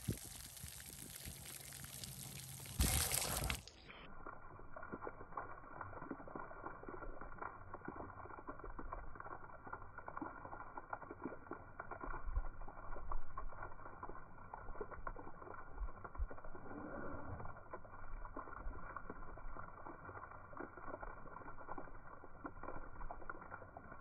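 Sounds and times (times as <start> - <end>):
dog lapping water: 0.0 - 24.0
water splashes: 0.0 - 24.0.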